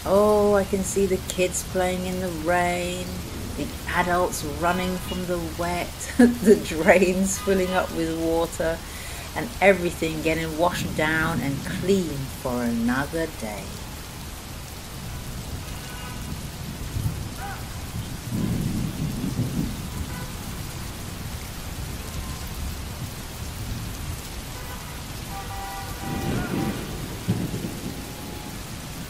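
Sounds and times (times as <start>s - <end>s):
thunder rolling: 0.0s - 13.9s, 15.0s - 29.0s
rain splashing on hard surface: 0.0s - 29.0s.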